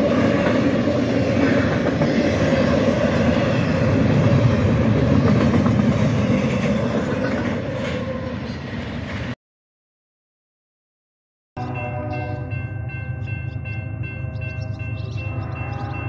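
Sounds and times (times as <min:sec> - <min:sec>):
freight train rolling past: 0:00.0 - 0:09.4, 0:11.6 - 0:16.0.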